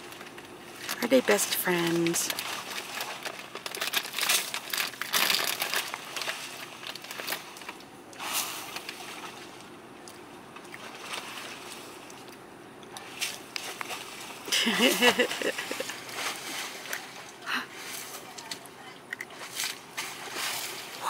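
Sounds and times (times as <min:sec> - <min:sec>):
crinkling and crackling: 0:00.0 - 0:21.0.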